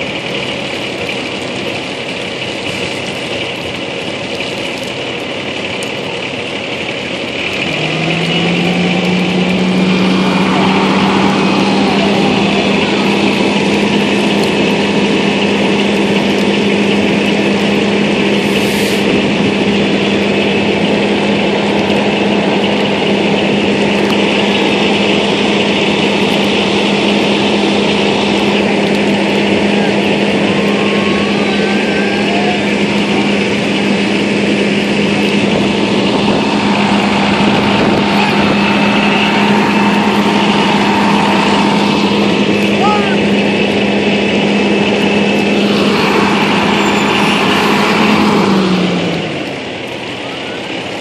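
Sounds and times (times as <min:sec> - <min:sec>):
truck engine revving: 0:00.0 - 0:51.0.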